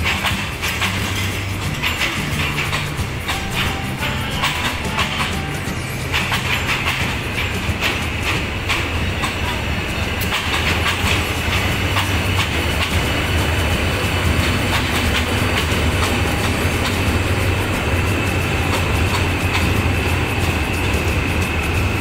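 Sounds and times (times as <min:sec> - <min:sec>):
diesel locomotive hum: 0:00.0 - 0:22.0
train wheels clicking over rail joints: 0:00.0 - 0:22.0.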